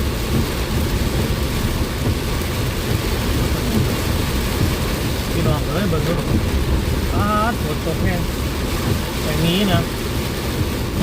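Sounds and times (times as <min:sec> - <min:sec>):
heavy rain drumming on car: 0:00.0 - 0:11.0
road and engine rumble: 0:00.0 - 0:11.0.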